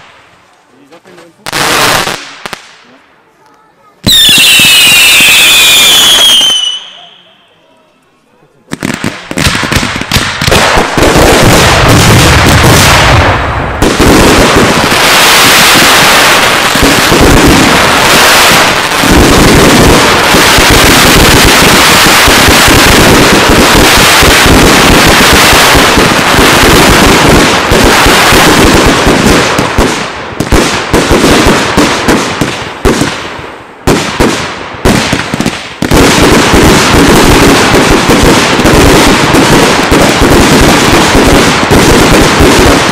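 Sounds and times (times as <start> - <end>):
fireworks bangs and pops: 0.0 - 7.0, 8.6 - 42.9.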